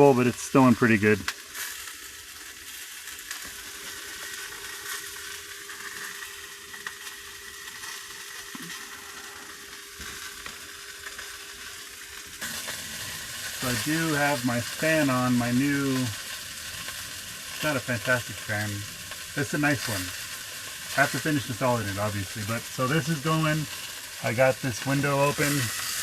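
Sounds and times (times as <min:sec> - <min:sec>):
faint steady hum: 0:00.0 - 0:26.0
sausages sizzling in a pan: 0:00.0 - 0:26.0.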